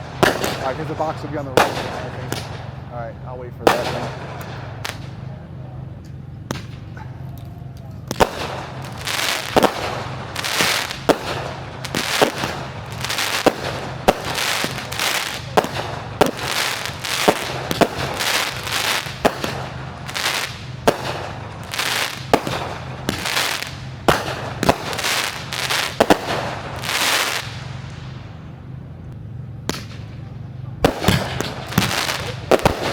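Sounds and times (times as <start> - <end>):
fireworks bangs: 0.0 - 28.9, 29.6 - 32.9
crackling hiss of fireworks: 0.0 - 32.9.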